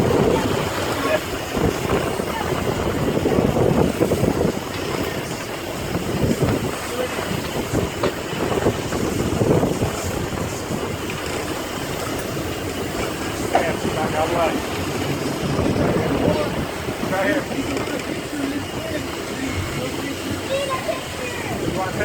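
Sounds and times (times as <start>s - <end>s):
boat engine: 0.0s - 22.0s
water noise: 0.0s - 22.0s
wind buffeting microphone: 0.0s - 22.0s.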